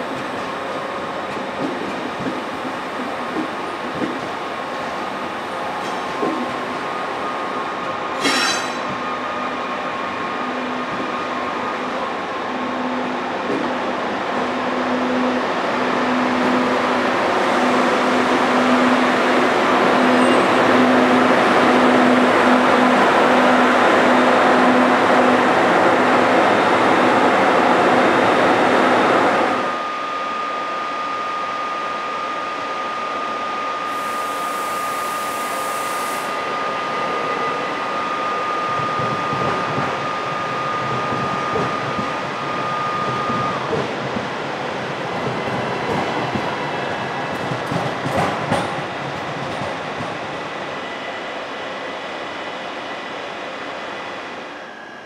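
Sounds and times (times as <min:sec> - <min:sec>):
electric locomotive humming: 0:00.0 - 0:55.0.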